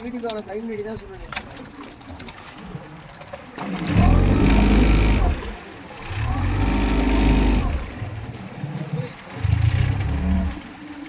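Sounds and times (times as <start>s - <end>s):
boat engine running: 2.0s - 11.0s.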